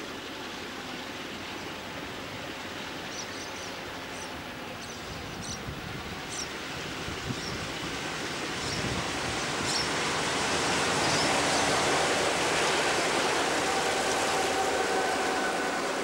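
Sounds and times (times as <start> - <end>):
freight train passing: 0.0 - 16.0
steady hiss: 0.0 - 16.0.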